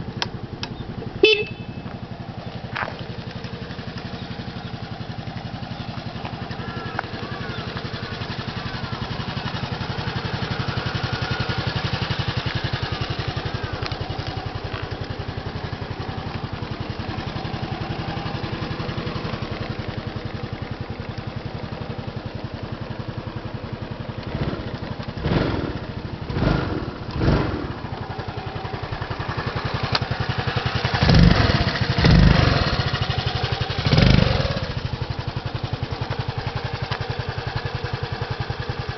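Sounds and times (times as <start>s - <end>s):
scooter engine idling: 0.0s - 38.9s
scooter engine revving: 0.0s - 38.9s.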